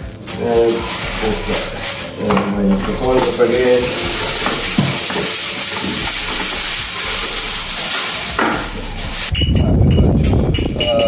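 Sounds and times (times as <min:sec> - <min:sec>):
aluminium foil crinkling: 0:00.0 - 0:09.3.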